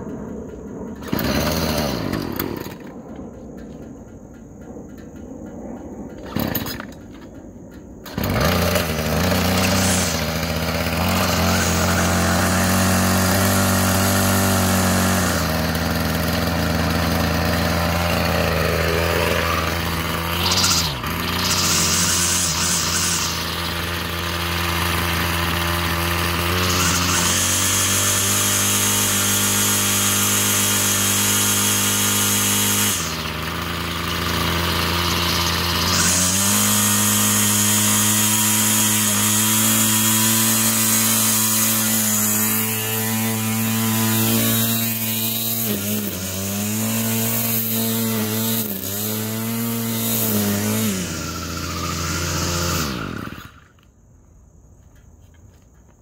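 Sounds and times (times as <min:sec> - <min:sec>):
string trimmer engine running: 0:00.0 - 0:03.1, 0:06.2 - 0:07.3, 0:08.0 - 0:53.9.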